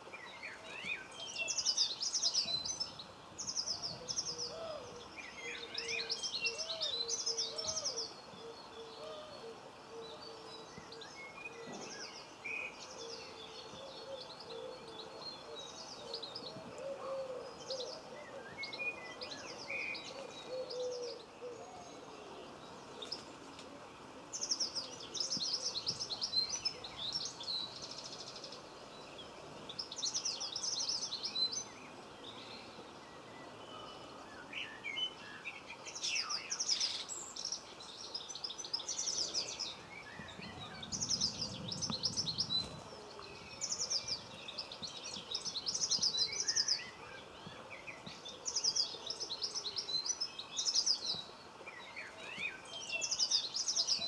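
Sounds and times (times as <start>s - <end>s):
faint background noise: 0.0s - 54.0s
songbird singing: 0.0s - 54.0s.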